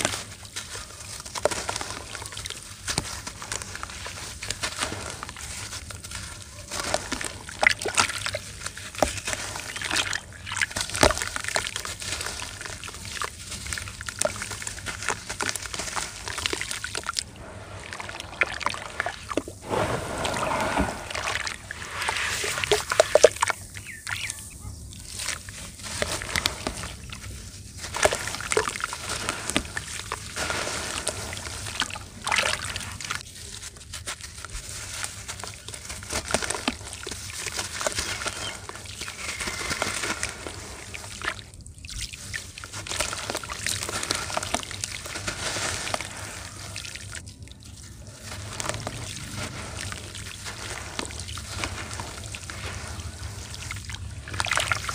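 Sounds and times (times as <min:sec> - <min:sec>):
hands sloshing muddy water: 0:00.0 - 0:24.4, 0:25.0 - 0:54.9
wet dirt crumbling into water: 0:00.0 - 0:24.4, 0:25.1 - 0:54.9.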